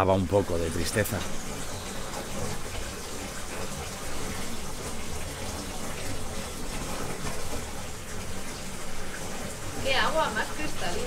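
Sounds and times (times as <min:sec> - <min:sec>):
water running into stone trough: 0:00.0 - 0:11.0.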